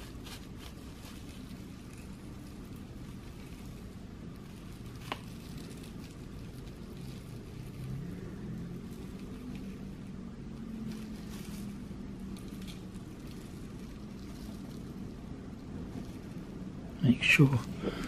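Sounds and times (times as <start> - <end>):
plastic bag rustling: 0.0 - 18.0
steady low hum: 0.0 - 18.0.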